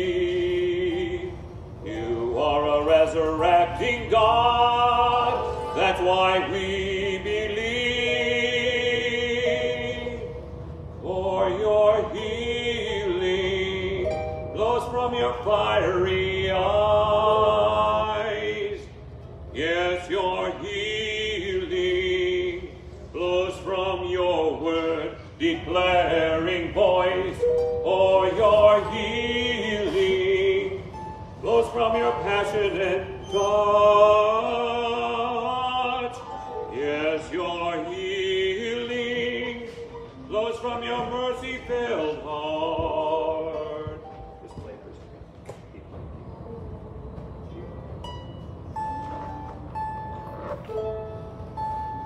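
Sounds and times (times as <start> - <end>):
man singing operatically: 0.0 - 44.1.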